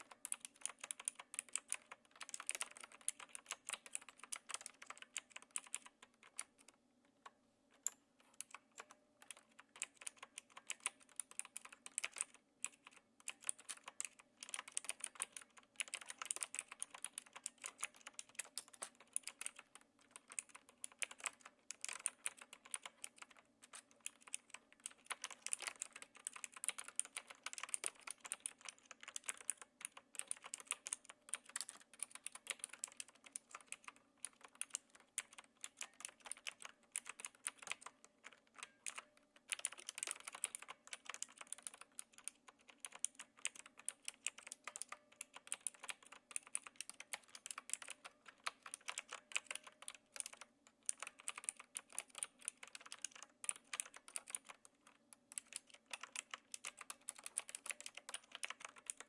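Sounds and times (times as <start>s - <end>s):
fast typing on clicky keyboard: 0.0s - 59.0s.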